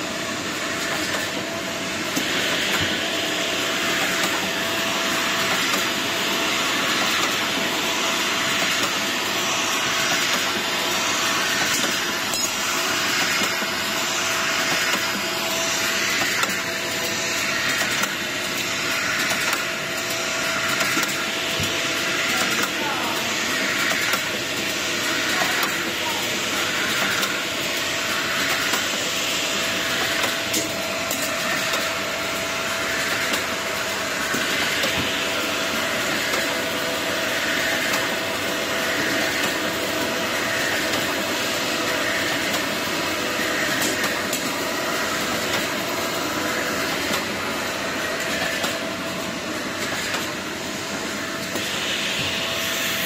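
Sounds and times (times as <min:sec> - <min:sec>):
production machine hiss and hum: 0:00.0 - 0:53.0.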